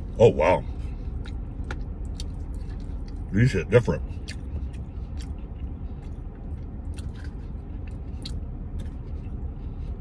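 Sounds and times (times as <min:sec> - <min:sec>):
man chewing food: 0:00.0 - 0:03.3, 0:04.0 - 0:10.0
low steady hum: 0:00.0 - 0:10.0.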